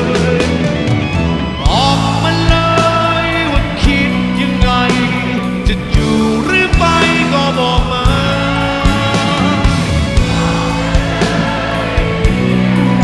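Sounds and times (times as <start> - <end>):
live rock band playing: 0.0 - 13.0
man singing lead vocal: 0.0 - 13.0.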